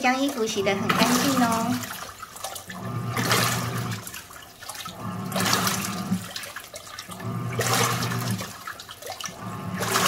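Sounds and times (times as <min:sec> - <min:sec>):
washing machine motor humming: 0:00.0 - 0:10.0
water and clothes sloshing: 0:00.0 - 0:10.0.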